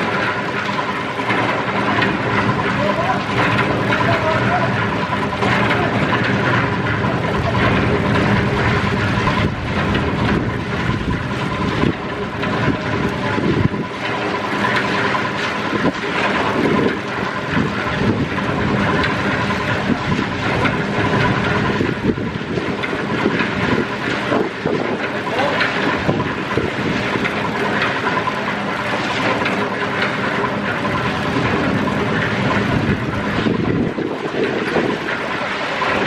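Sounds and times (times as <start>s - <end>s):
dense rattling noise: 0.0s - 36.0s
machine motor running: 0.0s - 36.0s.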